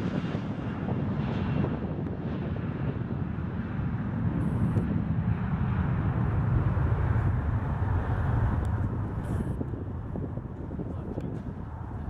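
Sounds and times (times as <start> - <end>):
jet engines low rumble: 0.0 - 12.0
wind buffeting microphone: 0.0 - 12.0.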